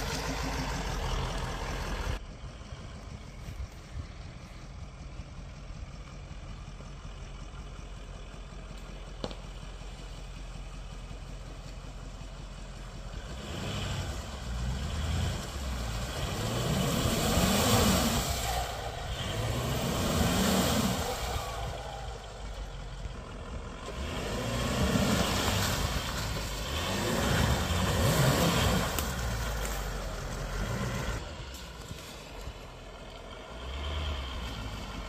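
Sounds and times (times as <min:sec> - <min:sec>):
diesel engine revving: 0:00.0 - 0:35.0.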